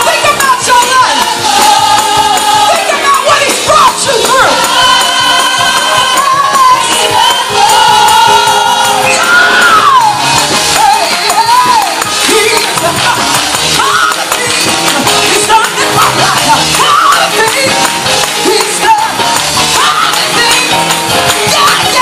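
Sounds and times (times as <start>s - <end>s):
gospel choir singing: 0.0s - 22.0s
music accompaniment: 0.0s - 22.0s.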